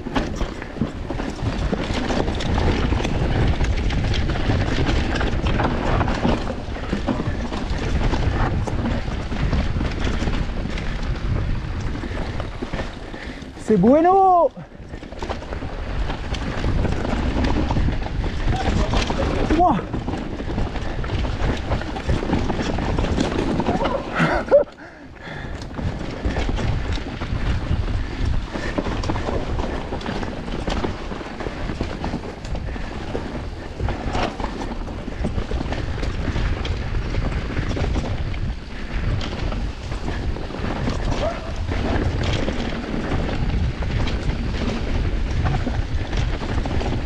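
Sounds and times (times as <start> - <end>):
bike rattling and clattering: 0.0 - 47.0
bike tyres rumbling over stones: 0.0 - 47.0
wind buffeting microphone: 0.0 - 47.0.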